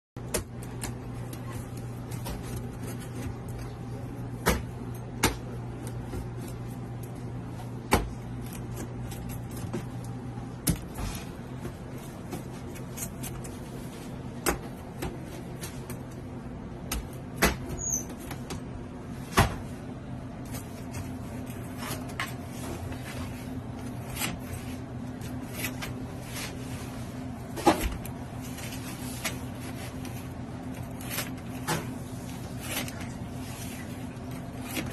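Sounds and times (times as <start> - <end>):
low machine hum: 0.2 - 34.9.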